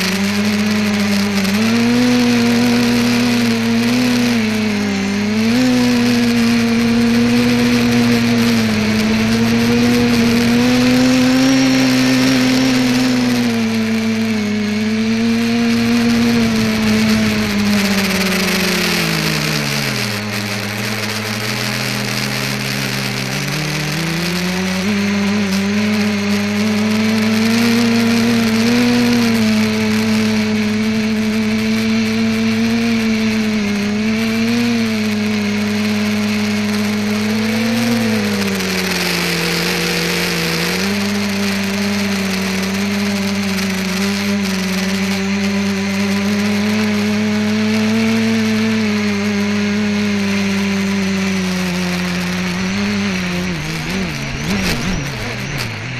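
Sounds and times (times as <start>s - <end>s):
drone propellers buzzing: 0.0s - 55.9s.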